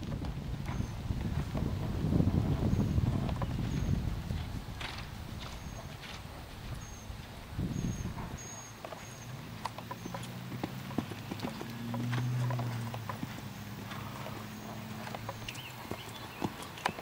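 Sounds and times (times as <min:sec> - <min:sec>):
horse hoofbeats on sand: 0:00.0 - 0:17.0.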